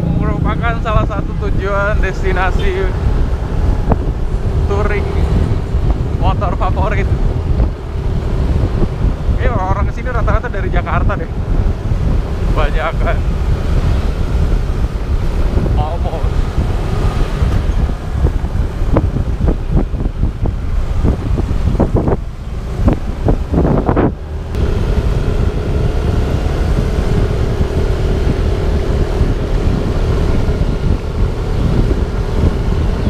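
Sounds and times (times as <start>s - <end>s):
motorcycle engine hum: 0.0s - 33.0s
wind buffeting microphone: 0.0s - 33.0s.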